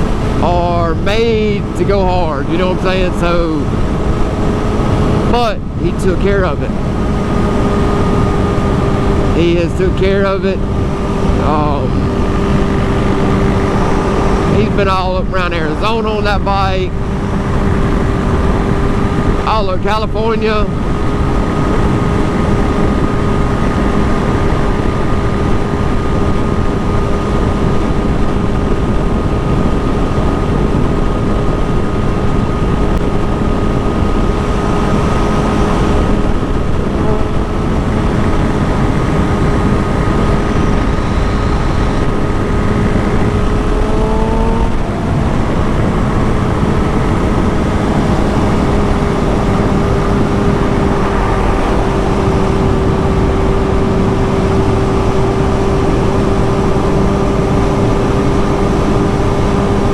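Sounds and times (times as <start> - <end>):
motorcycle engine cruising: 0.0 - 59.9
road and wind noise: 0.0 - 59.9.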